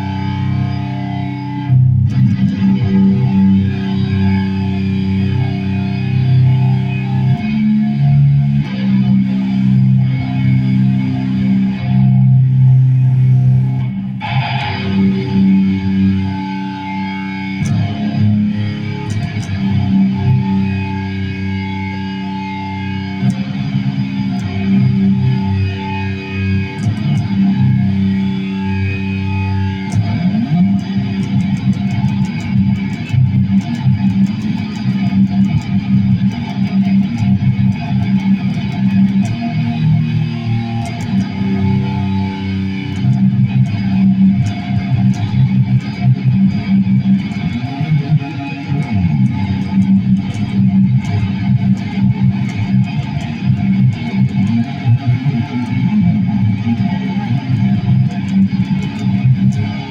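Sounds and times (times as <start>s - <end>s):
guitar playing: 0.0s - 59.9s.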